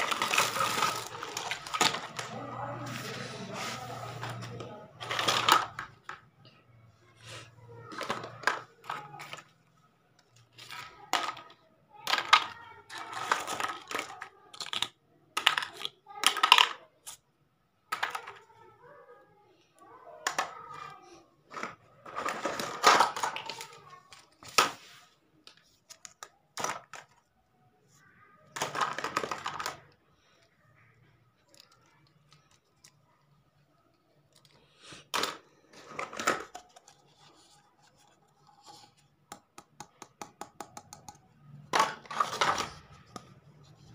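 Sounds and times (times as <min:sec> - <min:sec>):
plastic toy pieces clattering: 0:00.0 - 0:06.3, 0:07.8 - 0:17.2, 0:17.9 - 0:18.7, 0:20.2 - 0:27.4, 0:28.4 - 0:30.4, 0:31.3 - 0:43.9.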